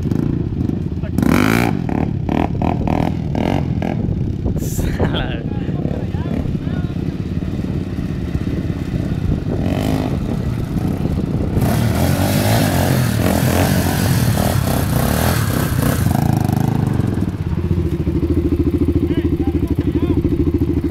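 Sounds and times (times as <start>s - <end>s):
atv engine revving: 0.0s - 20.9s.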